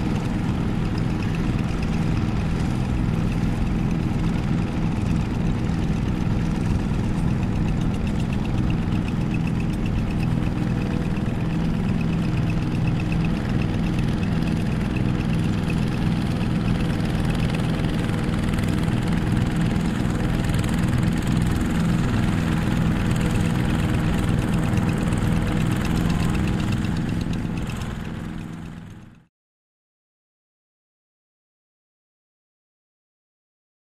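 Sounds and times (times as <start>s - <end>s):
single-cylinder diesel engine running: 0.0s - 29.3s.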